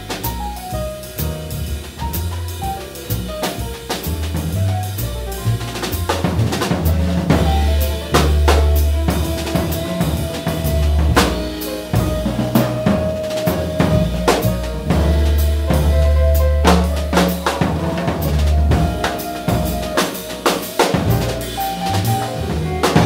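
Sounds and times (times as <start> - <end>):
double bass: 0.0 - 23.0
drum kit: 0.0 - 23.0
piano: 0.0 - 23.0.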